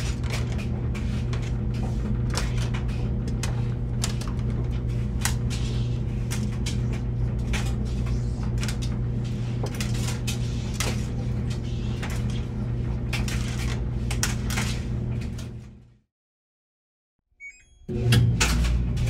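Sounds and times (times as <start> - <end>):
laundry machine motor hum: 0.0 - 16.0, 17.9 - 19.0.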